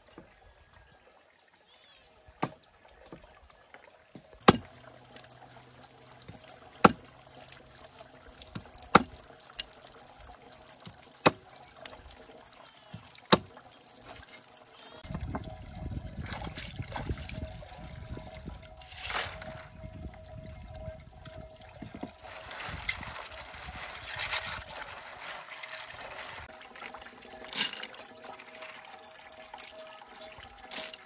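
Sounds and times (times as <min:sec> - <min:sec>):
water trickling into plastic basin: 0:00.0 - 0:31.0.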